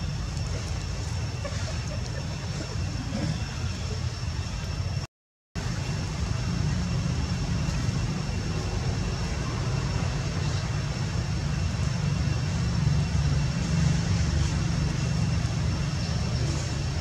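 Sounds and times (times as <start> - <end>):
low rumble of background noise: 0.0 - 17.0.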